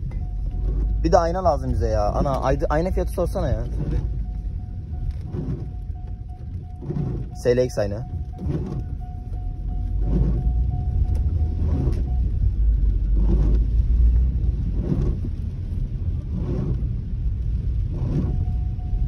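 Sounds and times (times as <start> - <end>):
engine and road rumble: 0.0 - 19.0
windscreen wipers swishing: 0.0 - 19.0.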